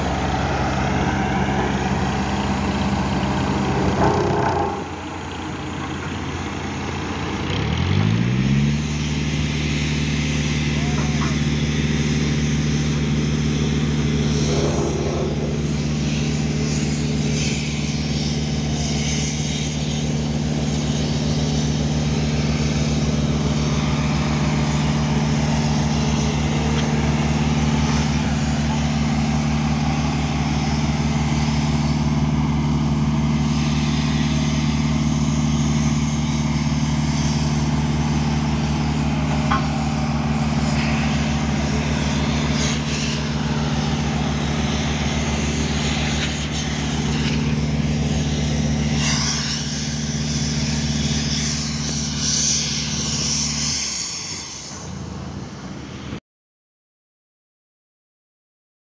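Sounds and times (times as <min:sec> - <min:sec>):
vehicle engine humming steadily: 0:00.0 - 0:56.2.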